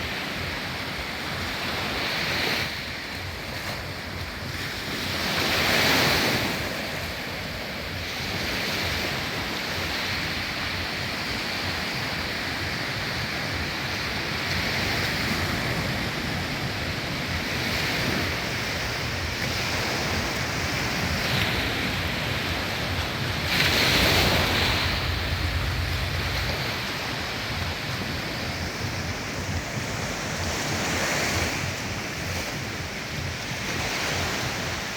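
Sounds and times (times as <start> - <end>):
sea waves breaking: 0.0 - 34.9
wind buffeting microphone: 0.0 - 34.9.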